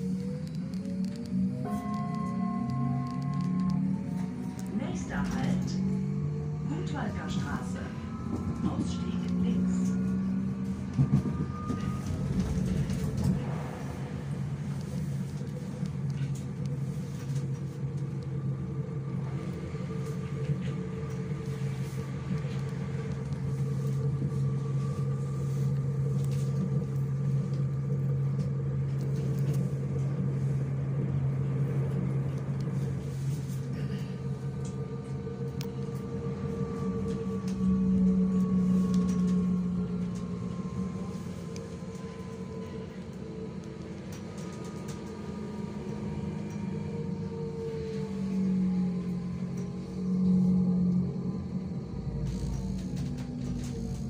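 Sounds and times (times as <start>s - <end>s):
electrical hum: 0.0s - 54.0s
train car rumble: 0.0s - 54.0s.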